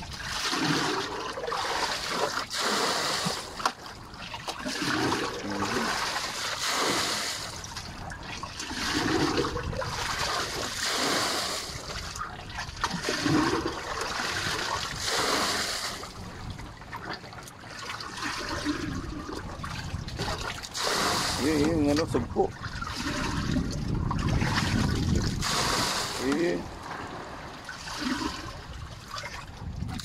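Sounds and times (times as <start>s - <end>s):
bucket scooping and pouring water: 0.0s - 30.0s.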